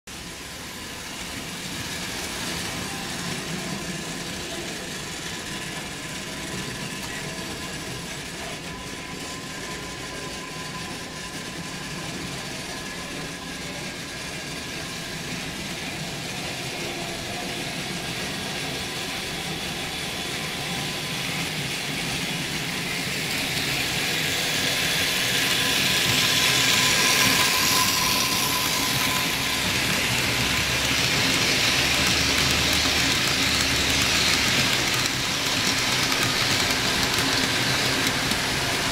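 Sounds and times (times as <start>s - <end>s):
model train rolling on track: 0.1s - 38.9s.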